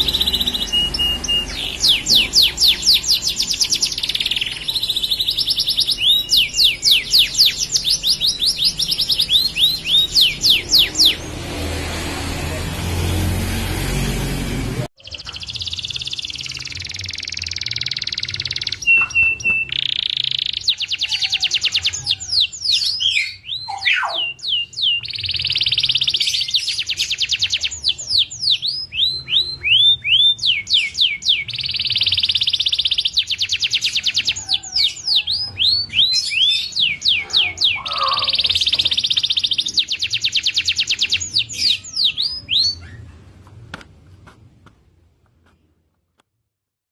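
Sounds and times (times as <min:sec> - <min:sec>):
canary singing trills: 0:00.0 - 0:12.0, 0:15.0 - 0:43.2.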